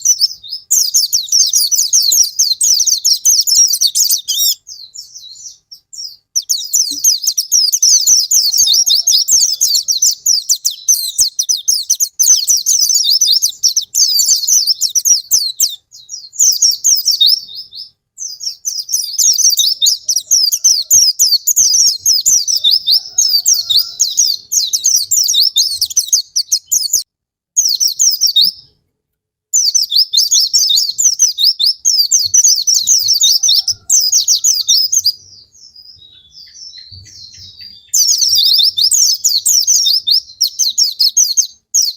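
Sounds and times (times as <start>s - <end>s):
bird twittering song: 0.0s - 28.8s, 29.5s - 41.9s.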